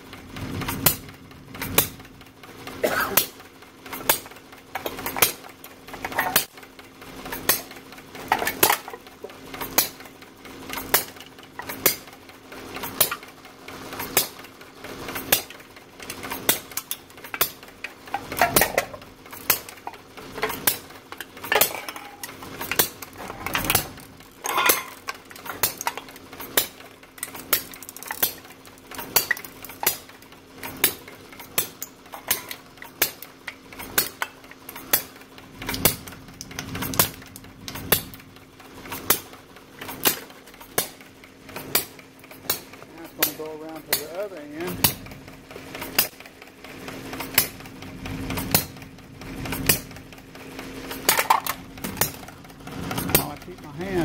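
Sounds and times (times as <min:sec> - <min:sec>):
small engine clicking: 0:00.0 - 0:54.0.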